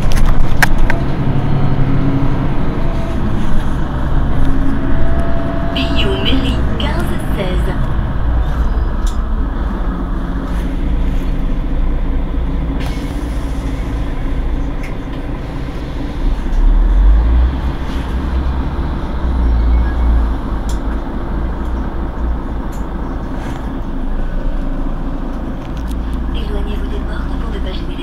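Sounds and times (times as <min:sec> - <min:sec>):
bus engine idling: 0:00.0 - 0:28.0.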